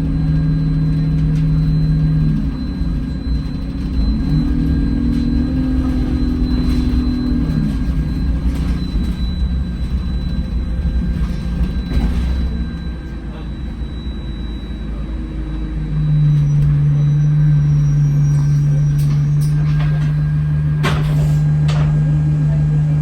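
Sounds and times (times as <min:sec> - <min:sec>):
bus diesel engine: 0:00.0 - 0:23.0
road rumble: 0:00.0 - 0:23.0.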